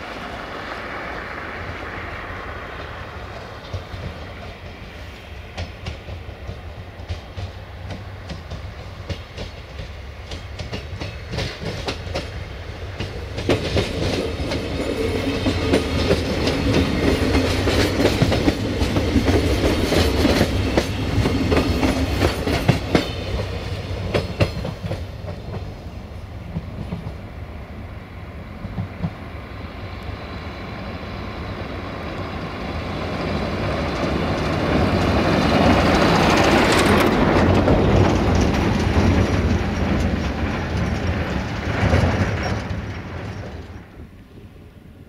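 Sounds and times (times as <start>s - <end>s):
train engine hum: 0.0s - 45.0s
train wheels clickety-clack: 0.8s - 27.4s, 28.6s - 30.1s, 31.4s - 44.2s.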